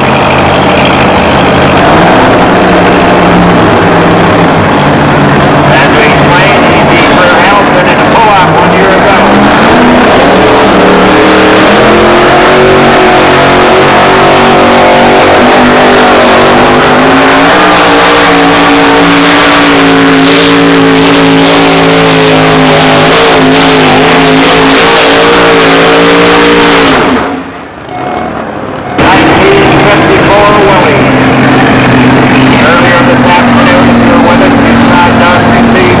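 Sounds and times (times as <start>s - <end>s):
truck engine running flat out: 0.0s - 36.0s.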